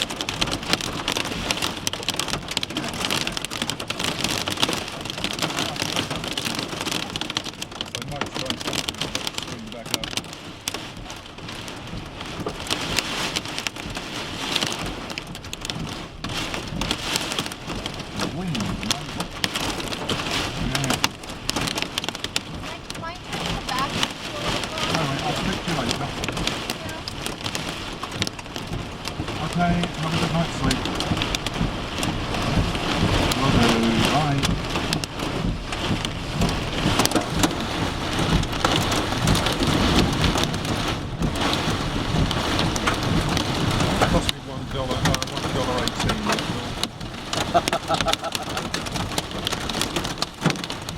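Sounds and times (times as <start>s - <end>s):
hailstones hitting vehicle: 0.0s - 50.9s
rain hiss: 0.0s - 50.9s.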